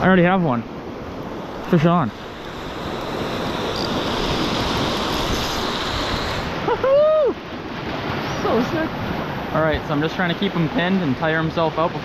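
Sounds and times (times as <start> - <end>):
wind buffeting microphone: 0.0 - 10.8
surf washing over rocky shore: 0.0 - 12.0.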